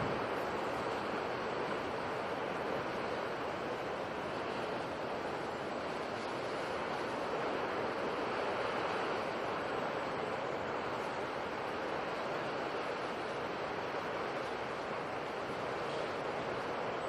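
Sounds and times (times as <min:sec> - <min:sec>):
sea waves rushing: 0:00.0 - 0:17.0.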